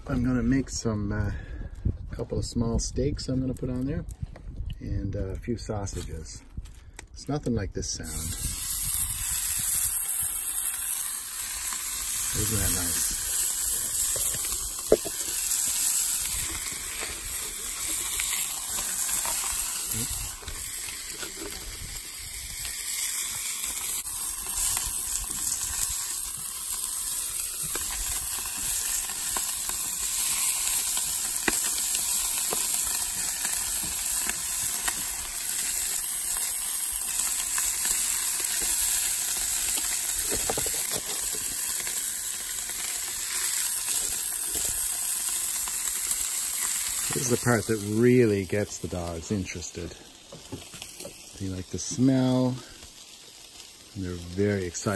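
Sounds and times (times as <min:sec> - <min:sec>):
faint crackles: 0:00.0 - 0:54.9
meat sizzling in a frying pan: 0:08.0 - 0:54.9.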